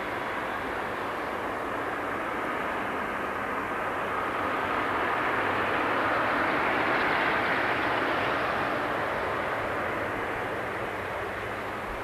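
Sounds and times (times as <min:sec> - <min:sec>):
jet engines roaring on takeoff: 0:00.0 - 0:12.0.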